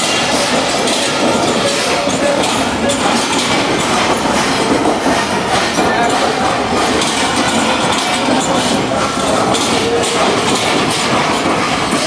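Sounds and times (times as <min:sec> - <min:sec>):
crowd chatter: 0:00.0 - 0:12.0
train wheels clicking on rails: 0:00.0 - 0:12.0.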